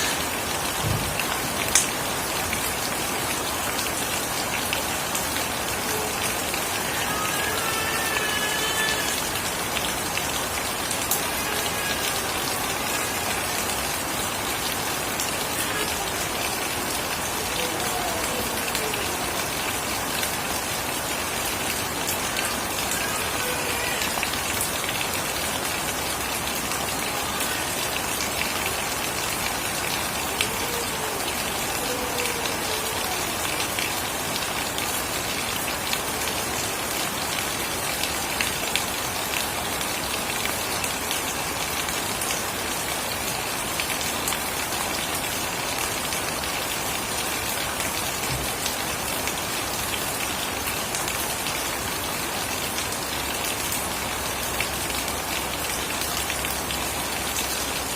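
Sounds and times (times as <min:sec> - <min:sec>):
heavy rain falling: 0:00.0 - 0:57.9
raindrops tapping surfaces: 0:00.0 - 0:57.9.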